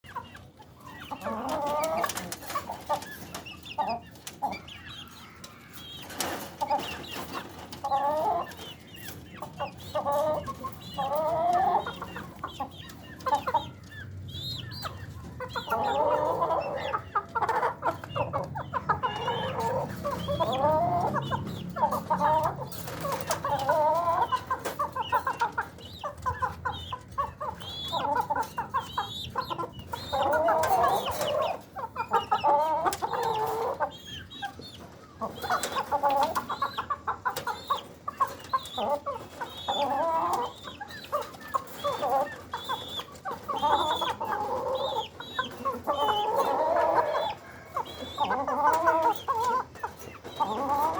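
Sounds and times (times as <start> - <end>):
chickens clucking and squawking: 0.0 - 50.9.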